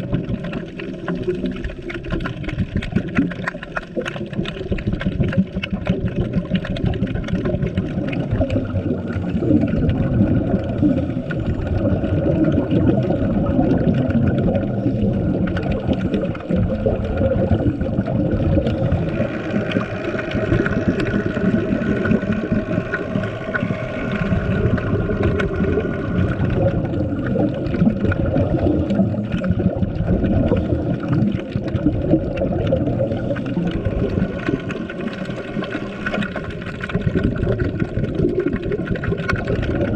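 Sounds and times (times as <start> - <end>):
underwater rumble and gurgle: 0.0 - 39.9.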